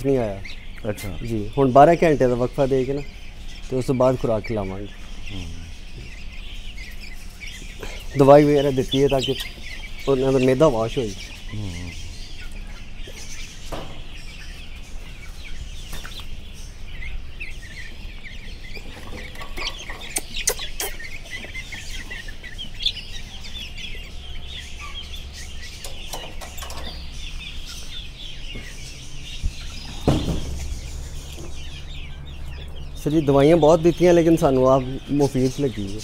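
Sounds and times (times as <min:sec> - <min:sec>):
chicks peeping and clucking: 0:00.0 - 0:36.0.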